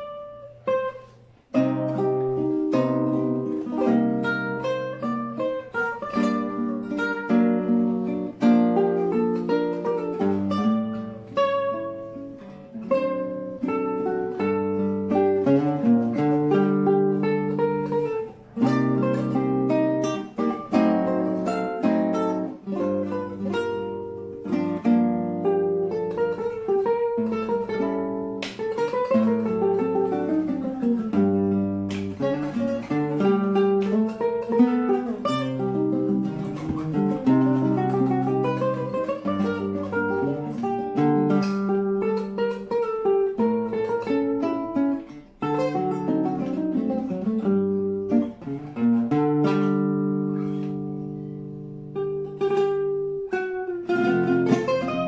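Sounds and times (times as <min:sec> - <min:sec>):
classical guitar playing: 0:00.0 - 0:55.0.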